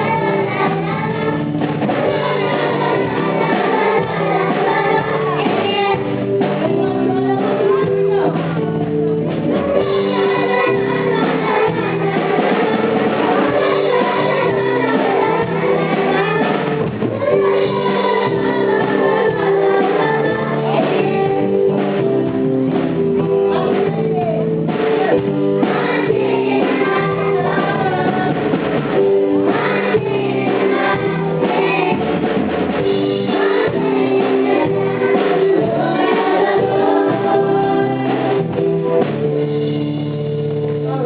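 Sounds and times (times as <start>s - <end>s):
children singing together: 0.0s - 8.7s, 9.3s - 39.2s
band with drums keyboard and guitar: 0.0s - 41.0s.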